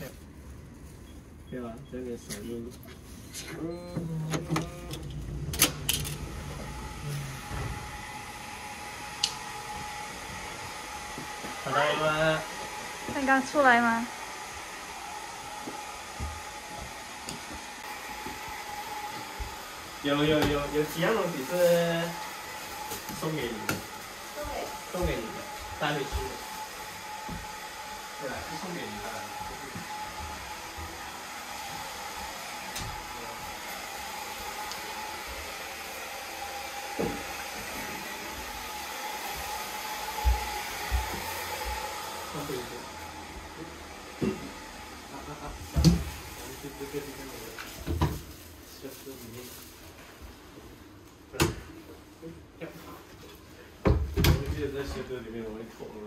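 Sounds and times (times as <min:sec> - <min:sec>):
electric fan whirring: 0:03.5 - 0:48.6.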